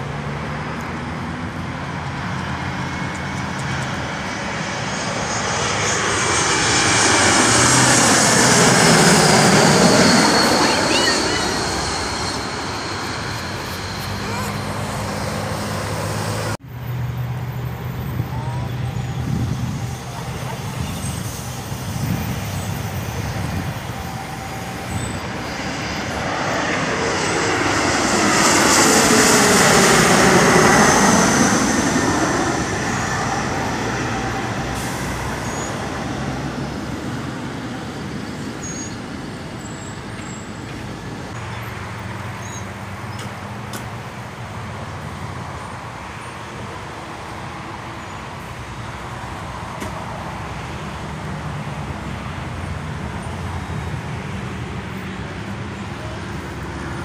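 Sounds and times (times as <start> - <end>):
jet airliner passing overhead: 0.0 - 57.0
road traffic: 0.0 - 57.0.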